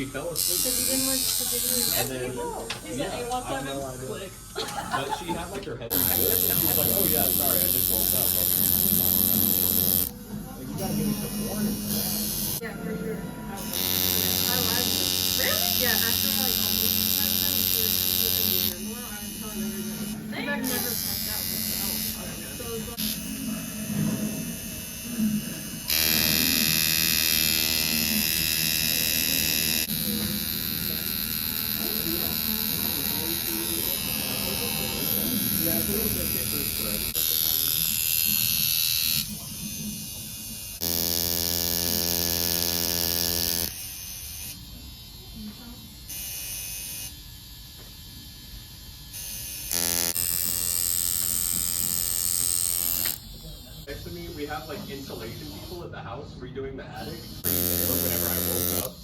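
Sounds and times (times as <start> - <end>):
tattoo machine buzzing: 0.0 - 55.9, 56.9 - 59.0.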